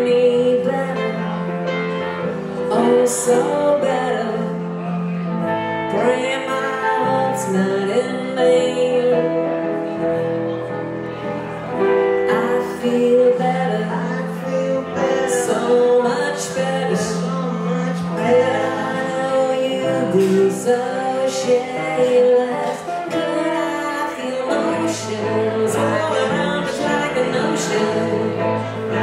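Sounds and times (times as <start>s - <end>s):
woman singing: 0.0s - 2.0s, 2.6s - 10.0s, 11.9s - 29.0s
electric keyboard: 0.0s - 29.0s.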